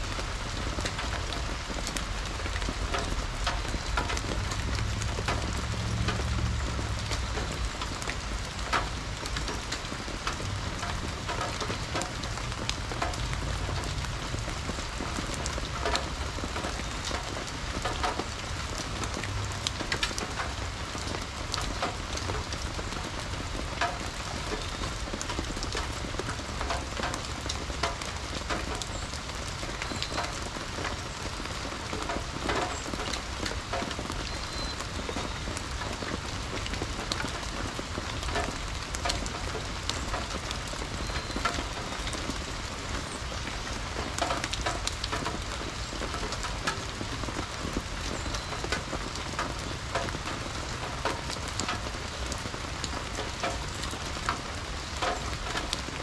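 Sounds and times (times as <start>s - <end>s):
raindrops ticking: 0.0s - 56.0s
steady rain falling: 0.0s - 56.0s.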